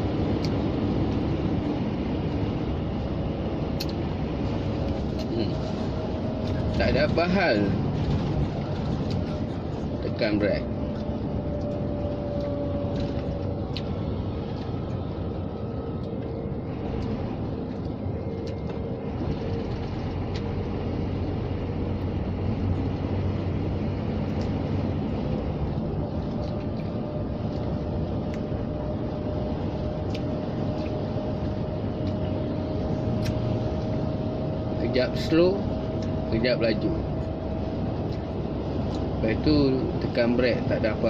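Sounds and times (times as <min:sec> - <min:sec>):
faint engine whine: 0:00.0 - 0:41.0
truck diesel engine drone: 0:00.0 - 0:41.0.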